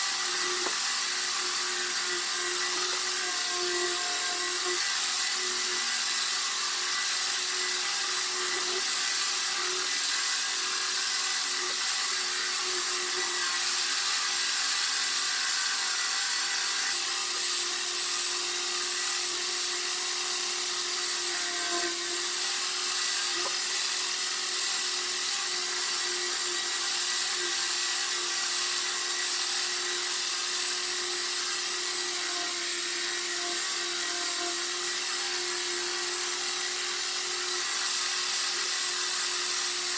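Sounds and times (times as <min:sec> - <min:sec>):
power sander on car body panel: 0:00.0 - 0:39.9.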